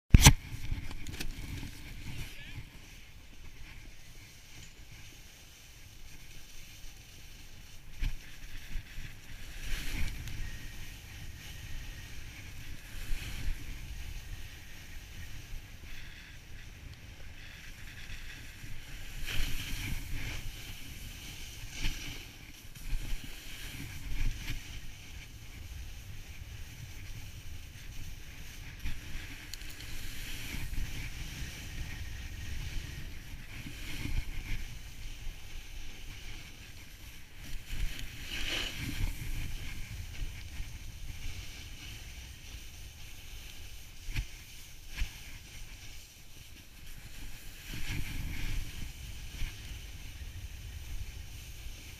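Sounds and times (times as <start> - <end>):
snowboard scraping on snow: 0.1 - 51.9.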